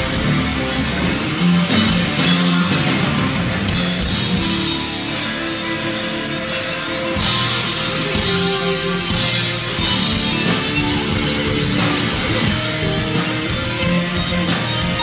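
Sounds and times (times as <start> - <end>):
drums: 0.0 - 15.0
electric guitar: 0.0 - 15.0
rock band playing live: 0.0 - 15.0.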